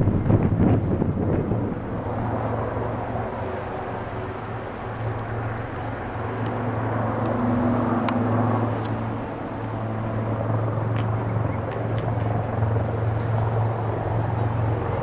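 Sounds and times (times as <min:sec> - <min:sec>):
aircraft engines droning overhead: 0:00.0 - 0:15.0.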